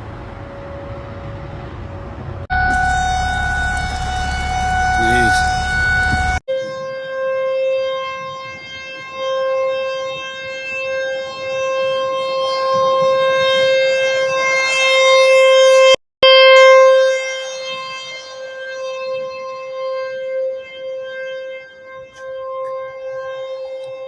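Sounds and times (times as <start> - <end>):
warning siren steady tone: 0.0 - 24.0.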